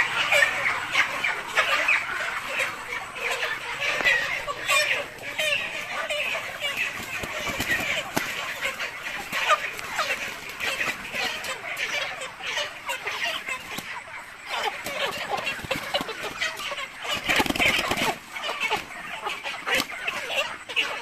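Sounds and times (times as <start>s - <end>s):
chickens squawking and clucking: 0.0s - 21.0s.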